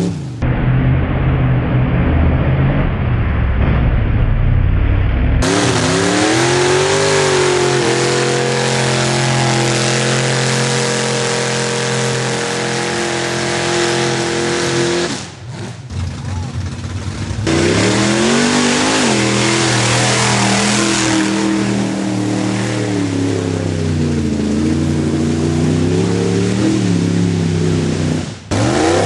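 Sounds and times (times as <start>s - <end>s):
truck engine at full throttle: 0.0s - 29.0s
truck engine revving high: 0.0s - 29.0s.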